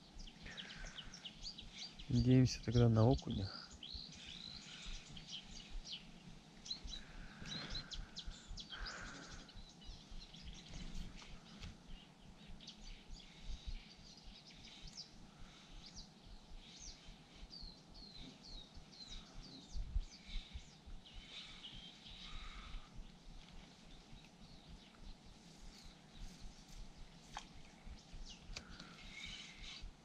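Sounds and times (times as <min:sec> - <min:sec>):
small songbirds chirping: 0:00.0 - 0:30.0.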